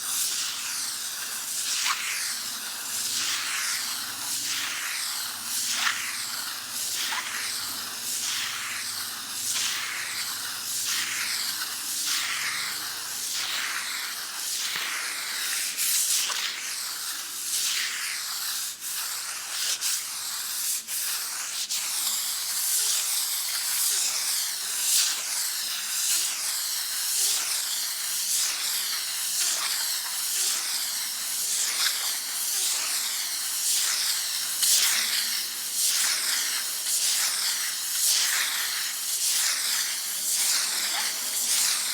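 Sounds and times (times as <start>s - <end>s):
sandpaper rasping on wall: 0.0s - 41.9s.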